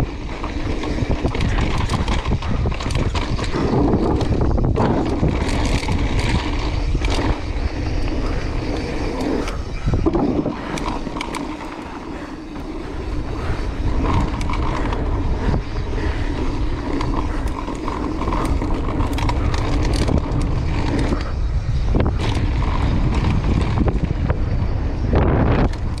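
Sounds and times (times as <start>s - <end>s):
bike tyres rolling over dirt: 0.0s - 26.0s
wind rumbling on microphone: 0.0s - 26.0s.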